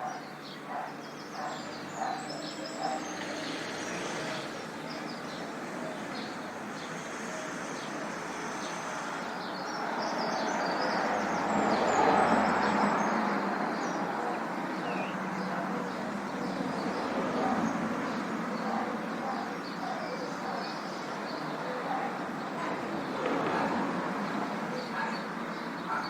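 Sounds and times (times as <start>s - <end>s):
birds chirping: 0.0s - 26.0s
steady traffic noise: 0.0s - 26.0s
vehicle passing: 1.3s - 26.0s.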